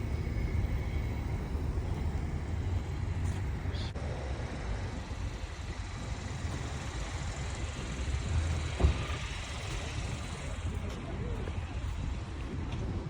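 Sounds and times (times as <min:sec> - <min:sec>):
low rumble of vehicle noise: 0:00.0 - 0:13.0.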